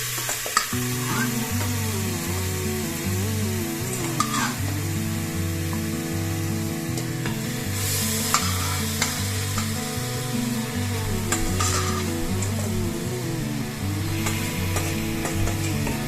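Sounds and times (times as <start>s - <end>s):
food sizzling in a pot: 0.0s - 16.0s
background music with bass: 0.8s - 16.0s.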